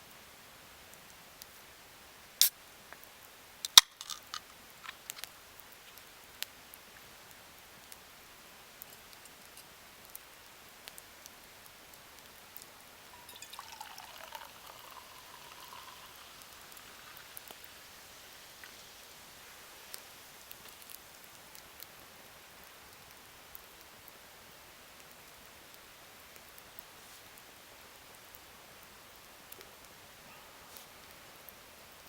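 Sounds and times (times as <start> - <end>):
faint hiss: 0.0 - 32.0
campfire crackling and popping: 2.4 - 30.2.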